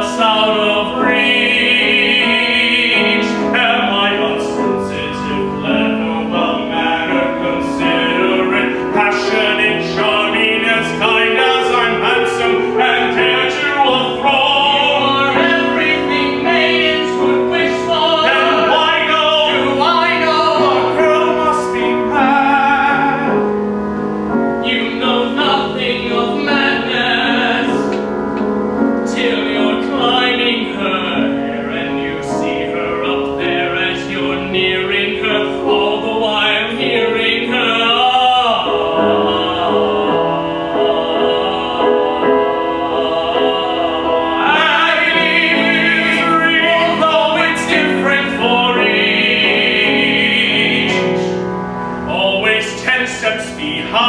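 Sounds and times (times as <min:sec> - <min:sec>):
man singing operatically: 0:00.0 - 0:23.6, 0:24.4 - 0:28.1, 0:29.0 - 0:51.4, 0:52.1 - 0:54.0
grand piano accompaniment: 0:00.0 - 0:54.0.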